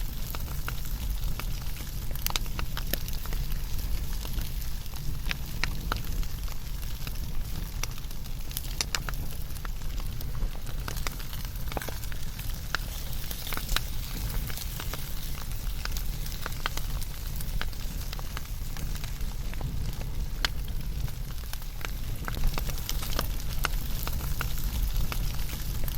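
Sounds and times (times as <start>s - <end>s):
fire rumble and hiss: 0.0s - 25.9s
wood fire crackling and popping: 0.0s - 25.9s.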